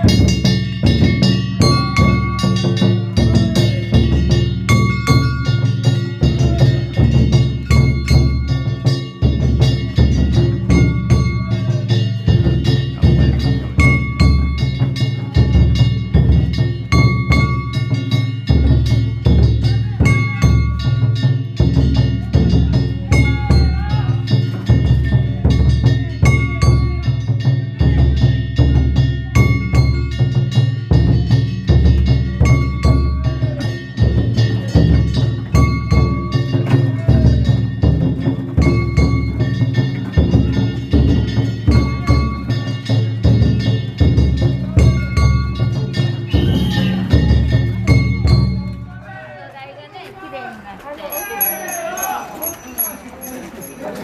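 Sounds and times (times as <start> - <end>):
big drum beating: 0.0 - 49.3
metal gongs ringing: 0.0 - 49.3.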